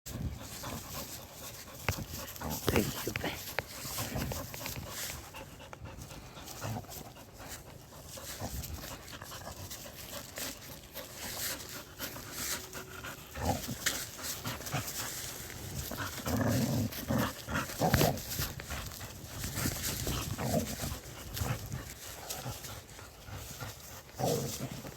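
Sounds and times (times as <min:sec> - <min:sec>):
puppy panting: 0:00.1 - 0:24.9.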